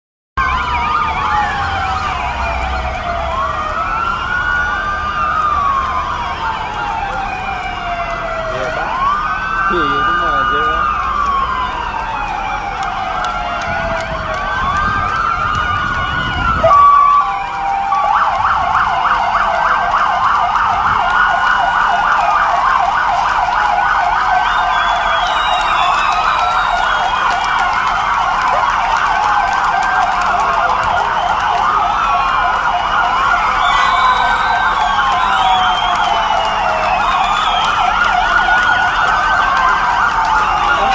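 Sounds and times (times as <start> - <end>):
emergency sirens wailing: 0.4 - 40.9
siren rapid yelp: 0.4 - 40.9.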